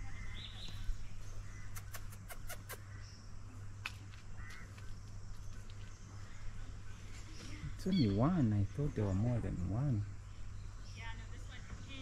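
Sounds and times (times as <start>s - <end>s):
bird chirps: 0.0s - 3.6s, 4.4s - 12.0s.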